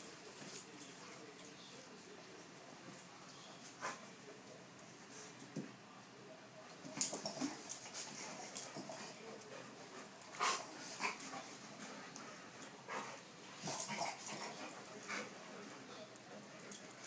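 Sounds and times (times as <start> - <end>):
dogs play-fighting: 0.0 - 5.9, 6.7 - 17.0.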